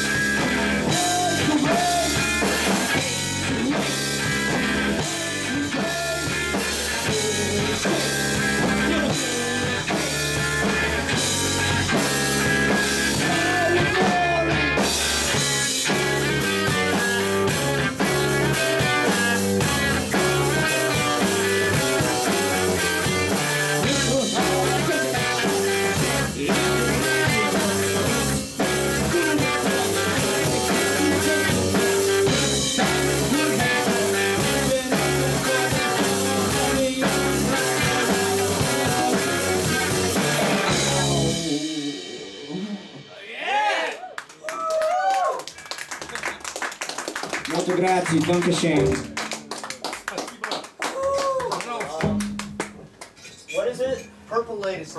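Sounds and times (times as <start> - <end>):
electric guitars: 0.0 - 43.2, 47.4 - 49.7
drum kit beat: 0.0 - 43.8, 47.0 - 49.5, 51.9 - 53.0.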